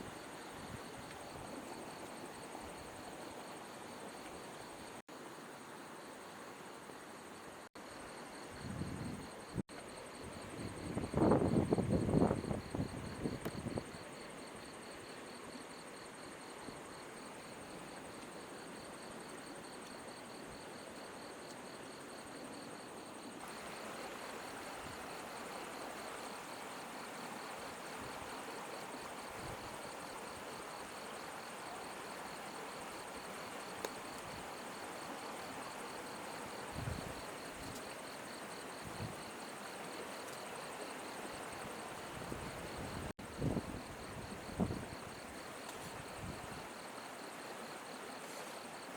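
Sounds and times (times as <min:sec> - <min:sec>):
insects trilling: 0:07.9 - 0:48.9.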